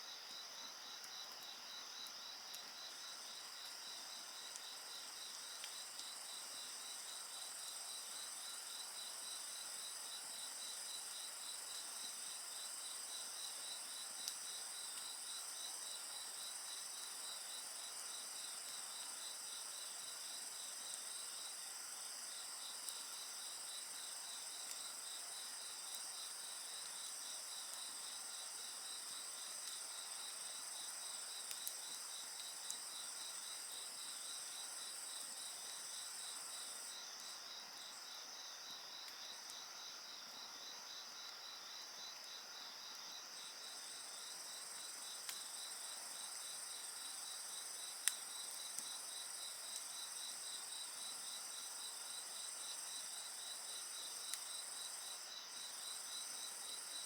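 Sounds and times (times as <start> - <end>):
crickets and insects chirping: 0.0 - 57.0.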